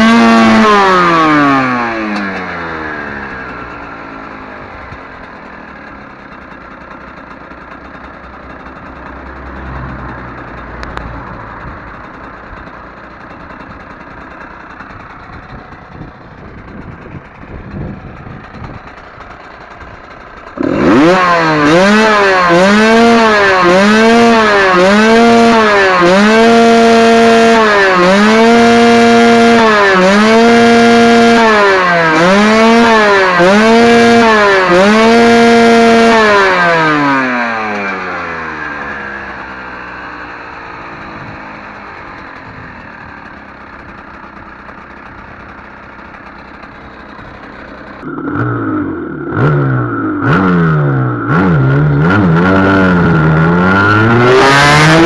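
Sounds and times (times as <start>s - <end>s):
motorcycle engine revving high: 0.0s - 55.0s
muddled engine background: 0.0s - 55.0s.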